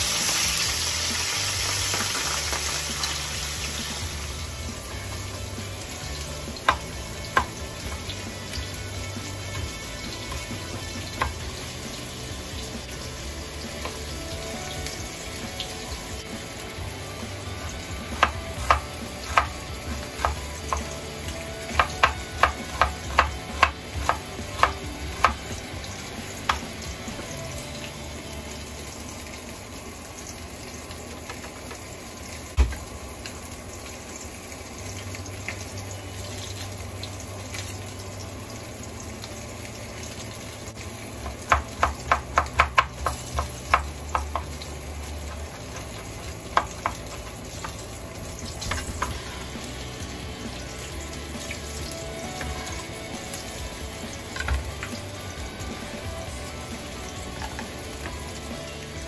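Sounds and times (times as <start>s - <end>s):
frying sizzle: 0.0s - 59.0s.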